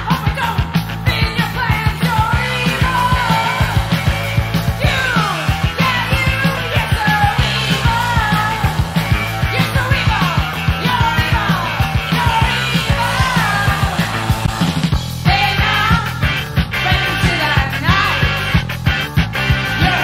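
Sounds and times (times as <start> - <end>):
fast drum beat: 0.0 - 20.0
rock music: 0.0 - 20.0.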